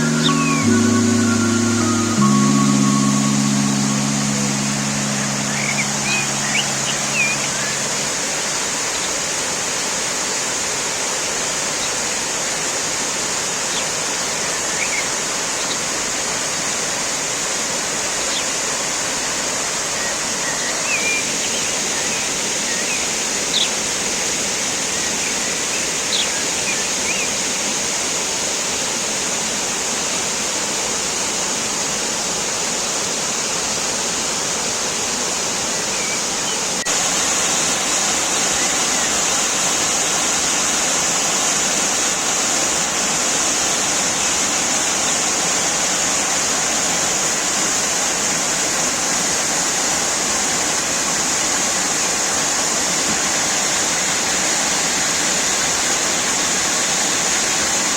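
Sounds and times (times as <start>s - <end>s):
waterfall rushing: 0.0s - 27.2s, 28.2s - 57.9s.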